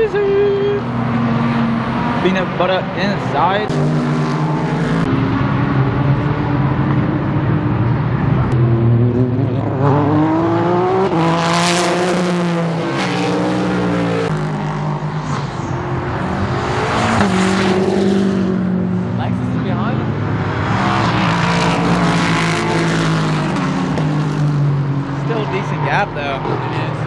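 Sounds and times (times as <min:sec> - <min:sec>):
race cars passing at speed: 0:00.0 - 0:27.0.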